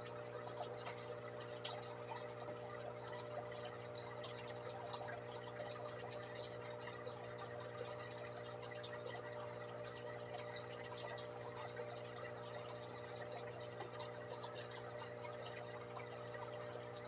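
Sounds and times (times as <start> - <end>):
aquarium pump humming: 0.0 - 17.0
water bubbling and trickling: 0.0 - 17.0.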